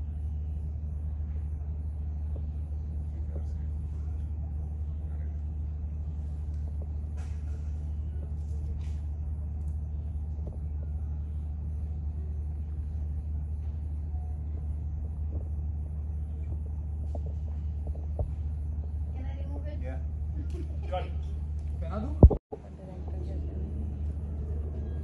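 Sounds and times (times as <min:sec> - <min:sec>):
faint high-pitched pulsing: 0:00.0 - 0:20.4
machinery rumbling: 0:00.0 - 0:25.0.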